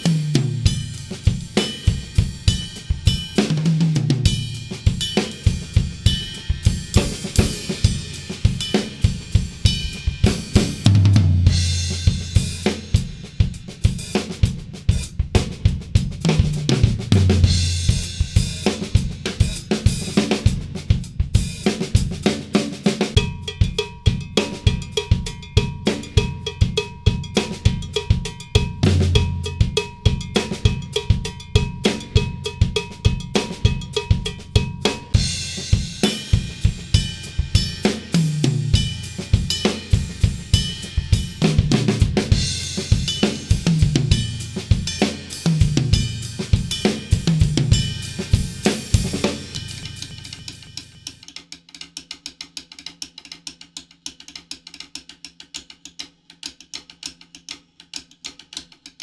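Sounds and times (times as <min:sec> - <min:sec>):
drum solo: 0:00.0 - 0:53.0.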